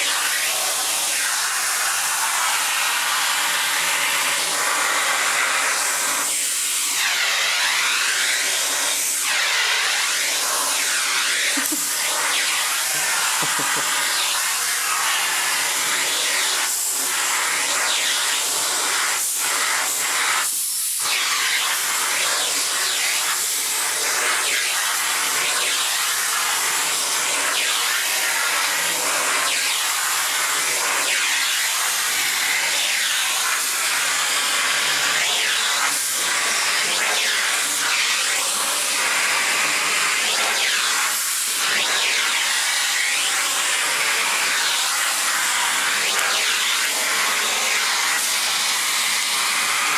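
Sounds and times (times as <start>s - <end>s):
vacuum cleaner suction hissing: 0.0s - 49.9s.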